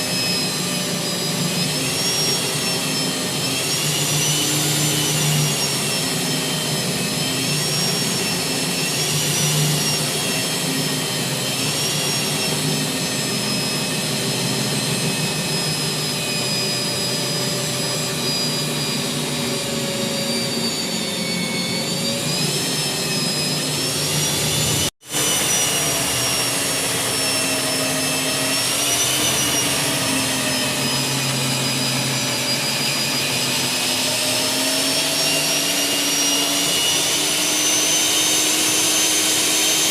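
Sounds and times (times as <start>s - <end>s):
core drill cutting concrete: 0.0s - 39.9s.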